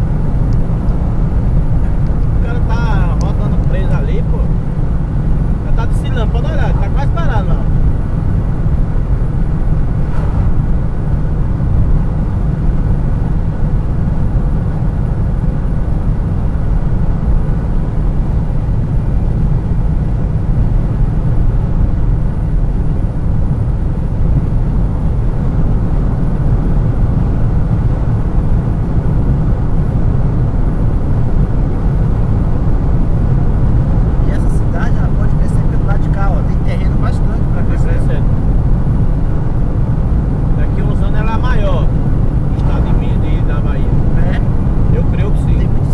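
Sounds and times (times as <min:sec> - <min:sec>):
tyre and road noise in car: 0:07.7 - 0:45.9.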